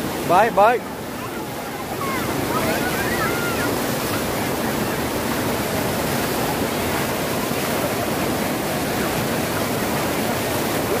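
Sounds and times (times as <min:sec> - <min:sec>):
water rushing over a weir: 0:00.0 - 0:11.0.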